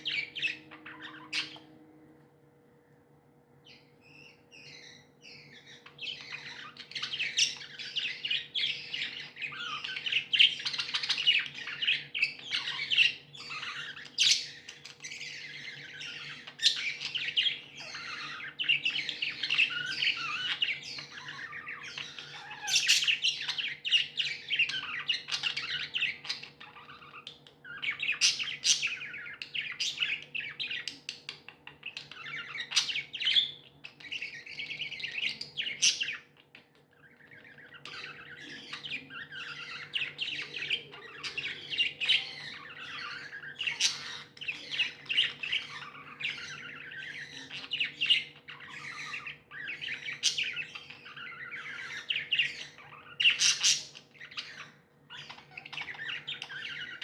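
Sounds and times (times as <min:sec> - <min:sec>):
budgies chattering and chirping: 0:00.0 - 0:02.0, 0:03.6 - 0:57.0
faint steady hum: 0:00.0 - 0:57.0.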